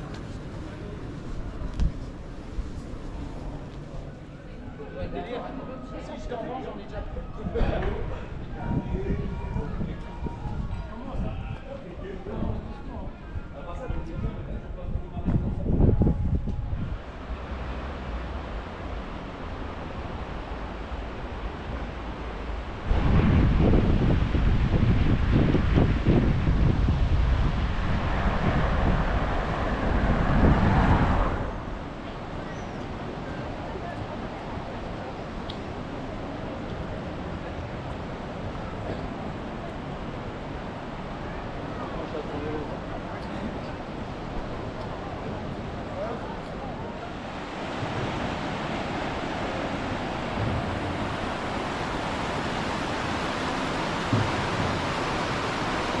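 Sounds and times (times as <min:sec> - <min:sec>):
wind buffeting microphone: 0:06.8 - 0:56.0
steady rushing noise: 0:07.8 - 0:56.0.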